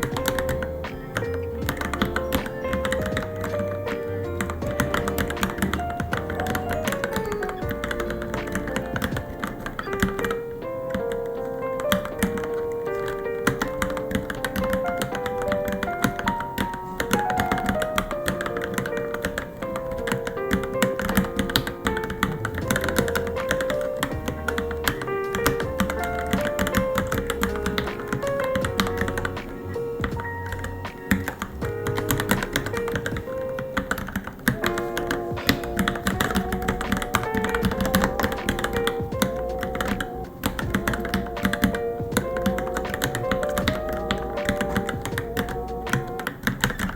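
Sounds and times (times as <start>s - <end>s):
background music: 0.0s - 46.9s
mechanical keyboard typing: 0.0s - 46.9s.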